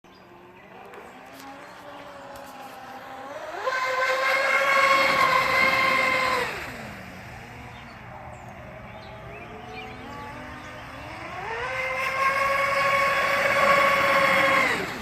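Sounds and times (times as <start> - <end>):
electric boat motor whining: 0.1 - 15.0.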